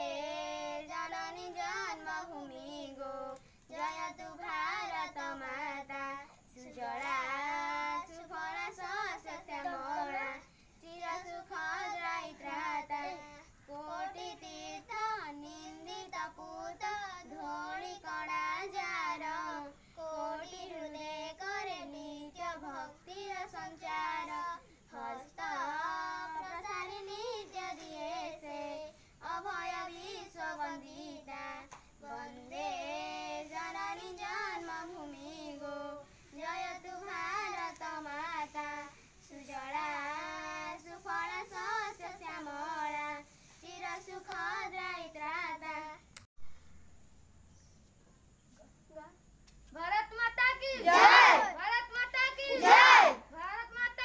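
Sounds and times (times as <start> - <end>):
child singing: 0.0 - 46.1, 49.7 - 54.0.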